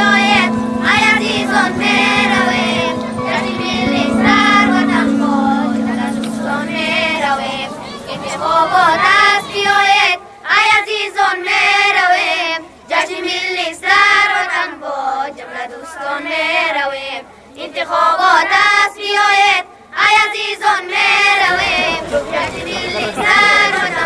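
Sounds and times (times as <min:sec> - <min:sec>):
boys singing in unison: 0:00.0 - 0:24.0.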